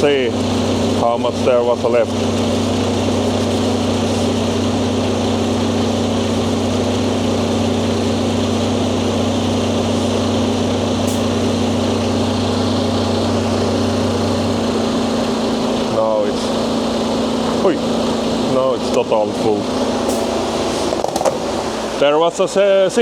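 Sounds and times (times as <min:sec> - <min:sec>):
fuel pump humming: 0:00.0 - 0:23.0.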